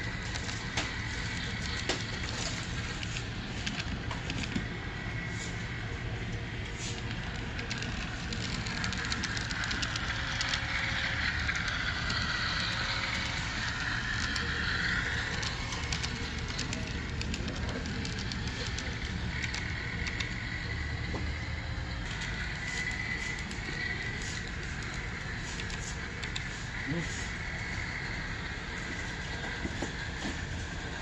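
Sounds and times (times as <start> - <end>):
model streetcar motor whirring: 0.0 - 31.0
room hum: 0.0 - 31.0.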